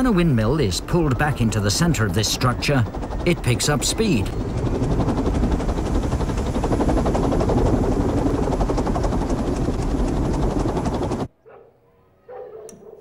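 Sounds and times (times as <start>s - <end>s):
wind turbine blades whirring: 0.0s - 11.3s.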